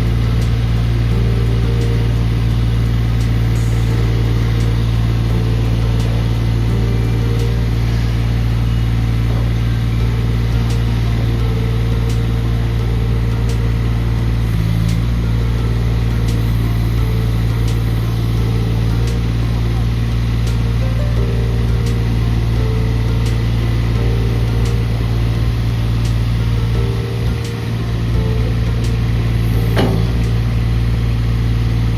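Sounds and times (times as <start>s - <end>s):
loader engine humming: 0.0s - 31.9s.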